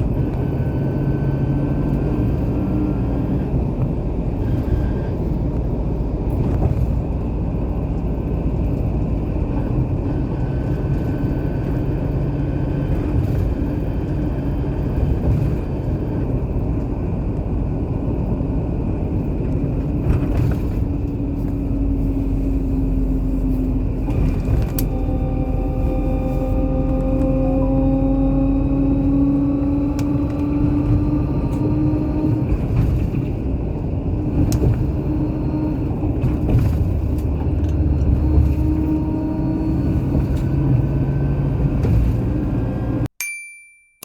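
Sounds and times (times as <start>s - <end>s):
car road and engine rumble: 0.0s - 43.1s.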